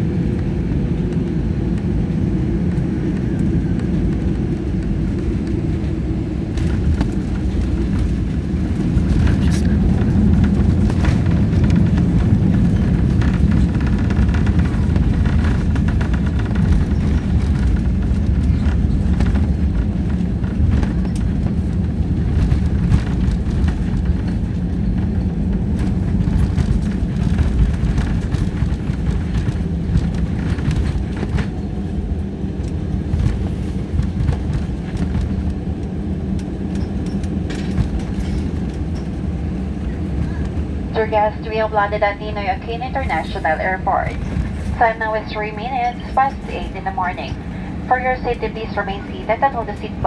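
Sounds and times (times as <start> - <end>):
engine and wheel rumble: 0.0 - 50.0.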